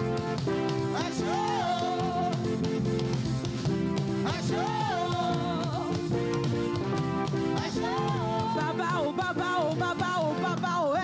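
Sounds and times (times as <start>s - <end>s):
lead singer singing: 0.0s - 3.4s, 4.1s - 11.0s
band playing held chords: 0.0s - 11.0s.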